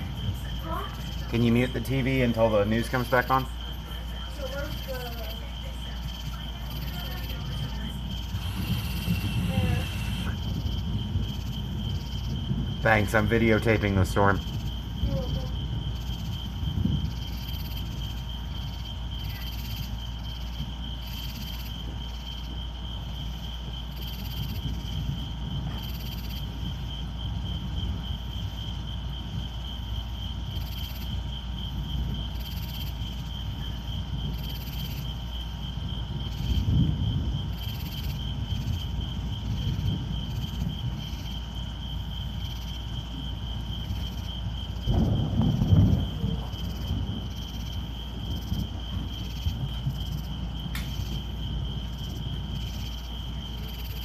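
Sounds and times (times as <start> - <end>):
crickets chirping: 0.0 - 54.0
low rumbling background: 0.0 - 54.0.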